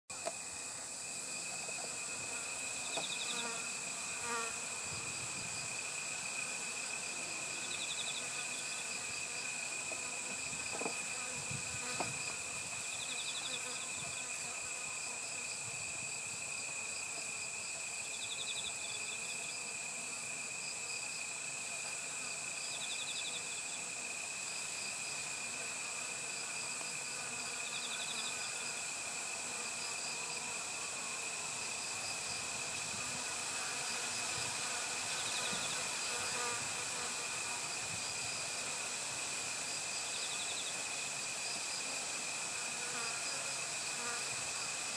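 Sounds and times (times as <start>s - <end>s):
crickets trilling: 0.1s - 44.9s.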